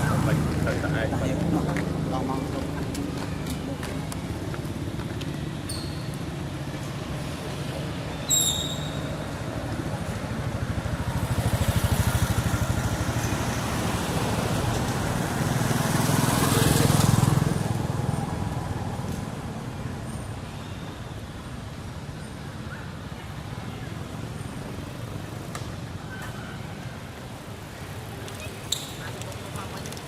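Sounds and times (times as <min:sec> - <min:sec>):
vehicles passing close: 0:00.0 - 0:30.0.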